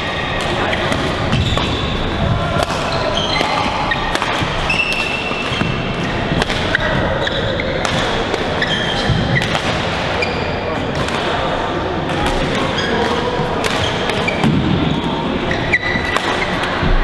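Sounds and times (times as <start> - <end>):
rackets hitting shuttlecock: 0.3 - 10.3, 10.9 - 11.4, 12.1 - 17.0
shoes squeaking on court floor: 0.6 - 2.2, 2.8 - 10.8, 12.5 - 16.7.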